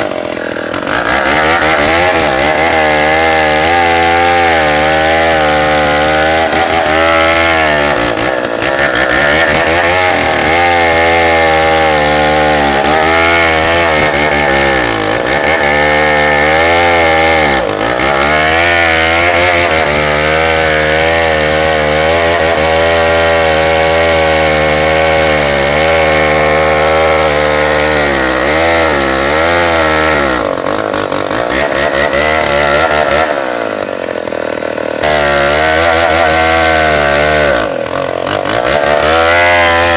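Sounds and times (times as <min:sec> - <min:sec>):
chainsaw cutting hardwood: 0:00.0 - 0:39.9.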